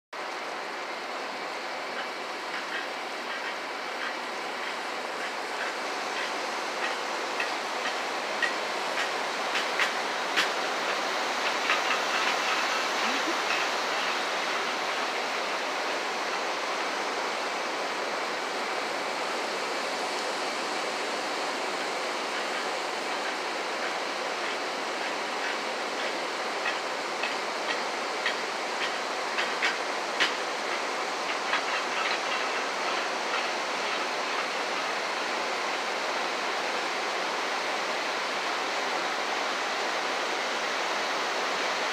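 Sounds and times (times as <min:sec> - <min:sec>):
industrial machinery noise: 0:00.2 - 0:41.9.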